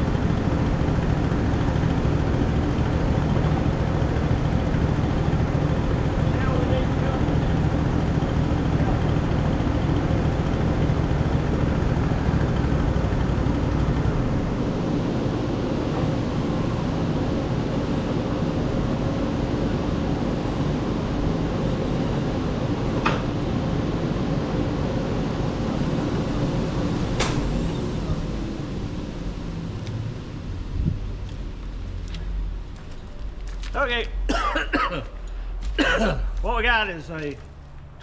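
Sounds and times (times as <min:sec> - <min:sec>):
sawmill engine running: 0:00.0 - 0:38.0.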